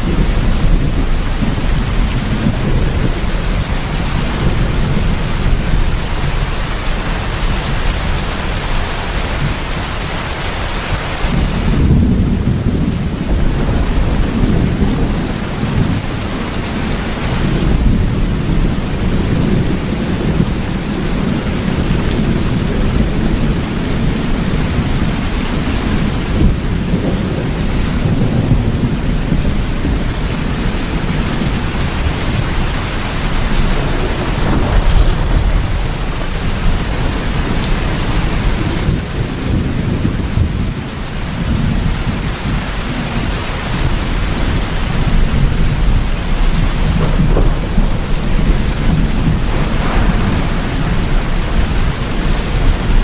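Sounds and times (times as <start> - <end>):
heavy rain: 0.0 - 53.0
thunder rumbling: 0.0 - 53.0.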